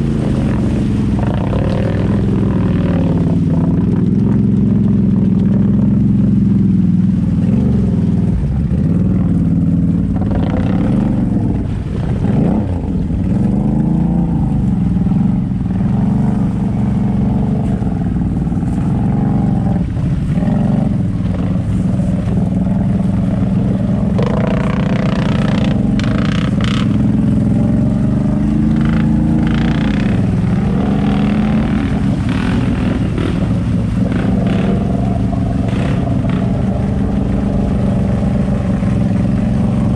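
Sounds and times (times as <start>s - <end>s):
quad engine revving: 0.0s - 4.6s, 8.8s - 39.9s.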